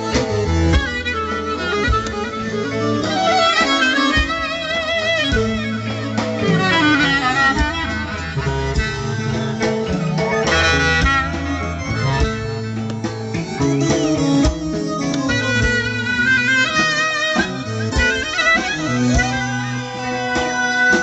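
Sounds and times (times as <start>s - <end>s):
folk clarinet solo: 0.0s - 21.0s
low accompaniment: 0.0s - 21.0s.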